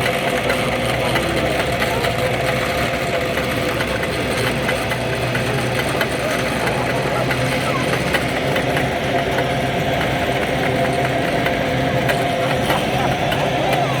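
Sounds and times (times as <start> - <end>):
cable car mechanical hum: 0.0 - 14.0.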